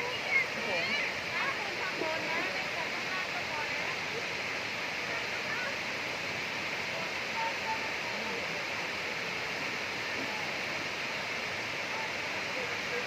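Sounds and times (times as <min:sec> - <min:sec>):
faint distant voices: 0:00.0 - 0:13.0
waterfall rushing: 0:00.0 - 0:13.0.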